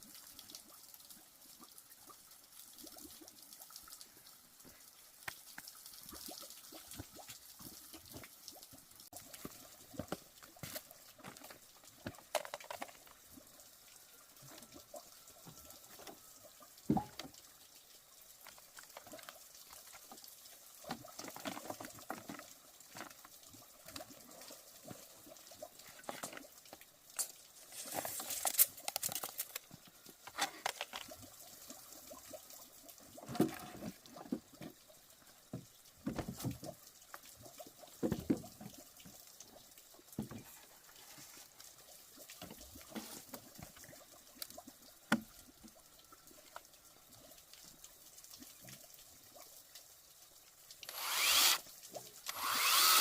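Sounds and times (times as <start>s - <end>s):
liquid splashing and pouring: 0.0s - 49.6s.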